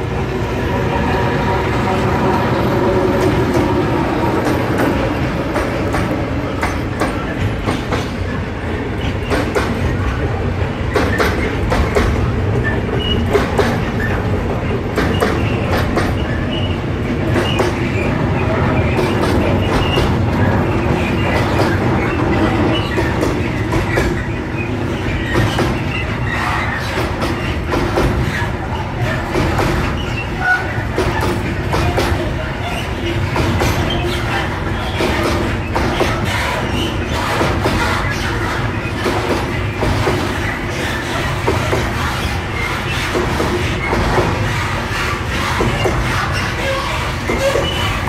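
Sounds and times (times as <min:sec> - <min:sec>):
train rumbling: 0:00.0 - 0:48.0
train wheels clicking over rail joints: 0:03.2 - 0:48.0.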